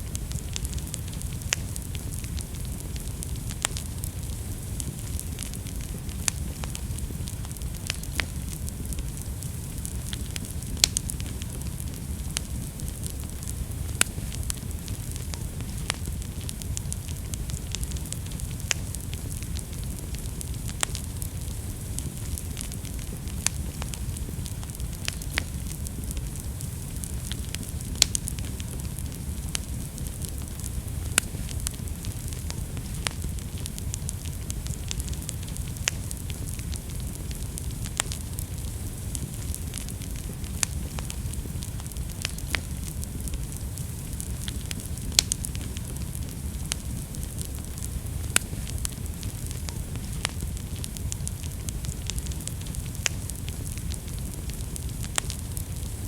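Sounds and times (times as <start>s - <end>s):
fire crackling and popping: 0.0s - 56.0s
low rumble of flame: 0.0s - 56.0s.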